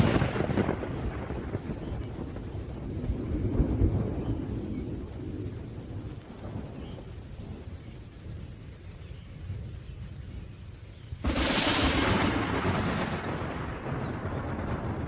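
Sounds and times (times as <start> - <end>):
thunder rumbling: 0.0 - 10.6, 11.2 - 15.0
steady rain: 0.0 - 15.0.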